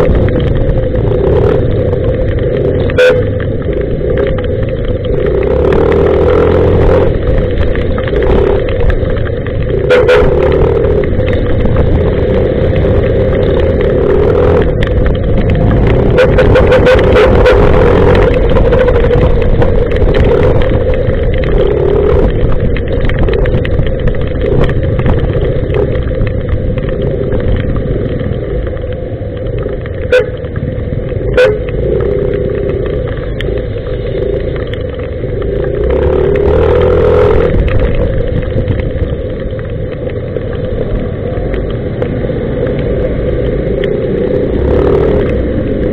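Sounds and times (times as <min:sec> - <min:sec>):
motorcycle engine: 0:00.0 - 0:45.9.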